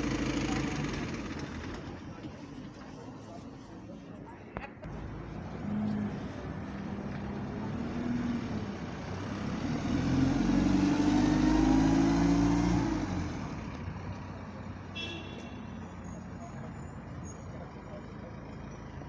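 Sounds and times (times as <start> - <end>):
bus engine passing by: 0.0 - 19.0.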